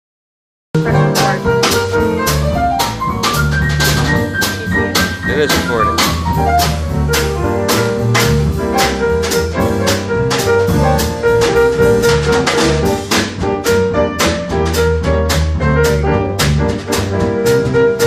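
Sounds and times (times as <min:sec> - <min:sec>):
drum kit beat: 0:00.8 - 0:18.0
jazz music: 0:00.8 - 0:18.0.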